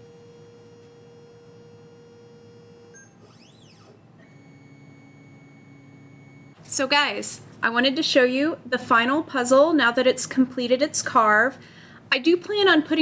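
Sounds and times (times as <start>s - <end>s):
faint humming tones: 0.0s - 13.0s.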